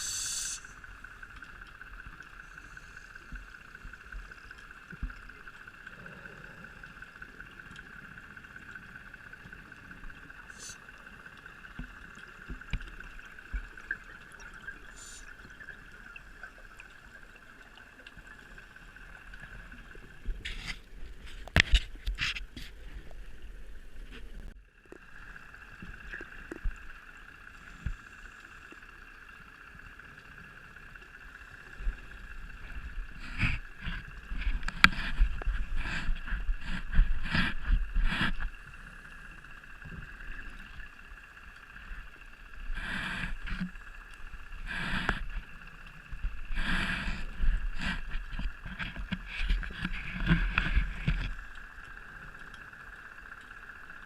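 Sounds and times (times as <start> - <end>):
faint high hum: 0.0 - 54.0
underwater bubbles gurgling: 0.0 - 54.0.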